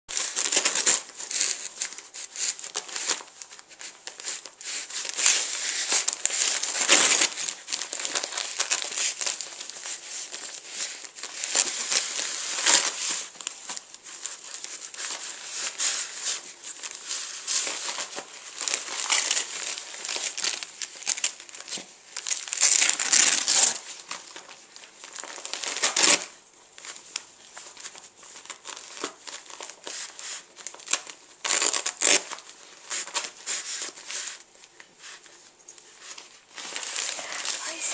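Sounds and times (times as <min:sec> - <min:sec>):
wrapping paper crinkling and ripping: 0:00.1 - 0:37.9.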